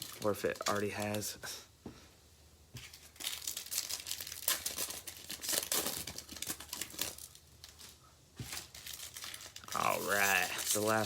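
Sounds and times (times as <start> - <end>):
foil wrapper tearing and crinkling: 0.0 - 1.4, 2.8 - 11.0.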